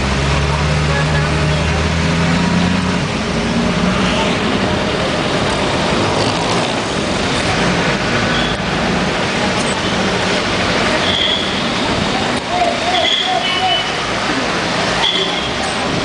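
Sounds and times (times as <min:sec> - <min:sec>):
road and traffic noise: 0:00.0 - 0:16.0.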